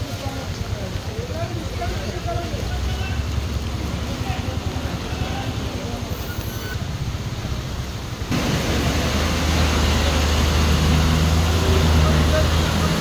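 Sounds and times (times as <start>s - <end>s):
floodwater rushing over ground: 0.0s - 13.0s.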